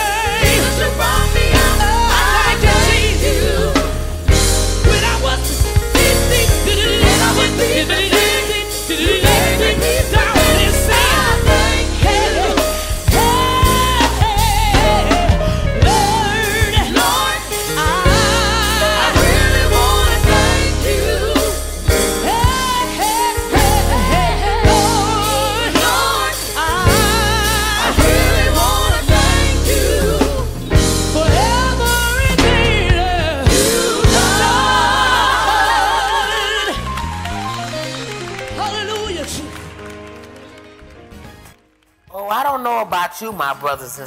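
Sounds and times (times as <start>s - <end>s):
person singing with vibrato: 0.0s - 37.0s
band with bass and drums: 0.0s - 40.0s.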